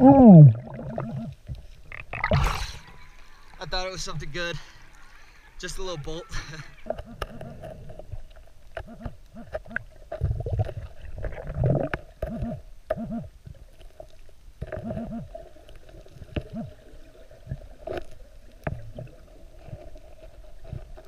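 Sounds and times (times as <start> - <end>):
underwater bubbling and gurgling: 0.0 - 21.0.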